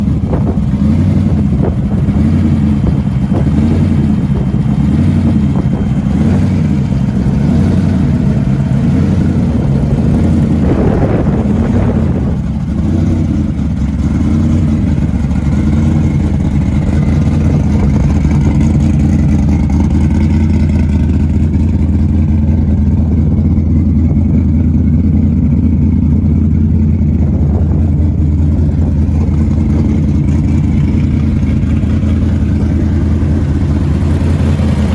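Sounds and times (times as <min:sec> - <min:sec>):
truck engine droning: 0:00.0 - 0:34.9.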